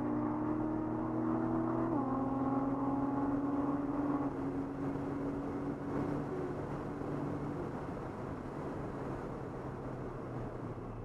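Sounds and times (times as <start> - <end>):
car engine from inside cabin: 0.0 - 11.0
road noise: 0.0 - 11.0.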